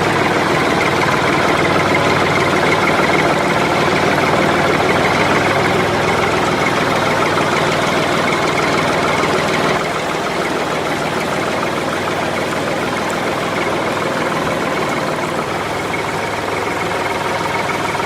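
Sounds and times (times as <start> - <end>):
tractor engine idling with knocking: 0.0 - 18.0.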